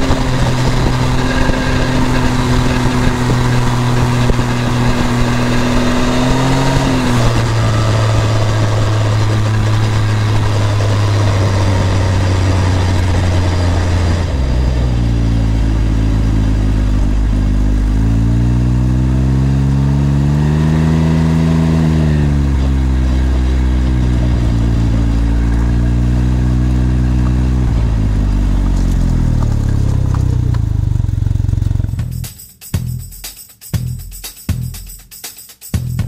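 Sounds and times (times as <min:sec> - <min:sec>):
motorbike engine exhaust note: 0:00.0 - 0:33.2.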